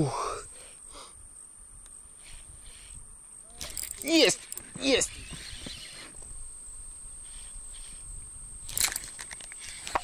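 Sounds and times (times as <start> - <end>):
high-pitched insect trill: 0.0 - 10.0.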